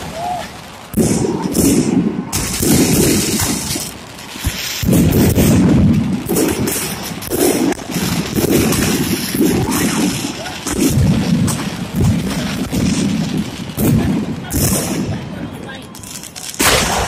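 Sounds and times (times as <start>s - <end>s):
firework shells booming: 0.0s - 17.0s
firework stars crackling: 0.0s - 17.0s.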